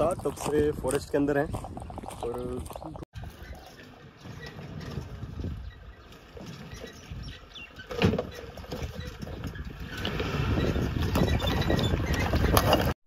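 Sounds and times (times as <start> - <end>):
wheels rumbling on stone: 0.0 - 13.0.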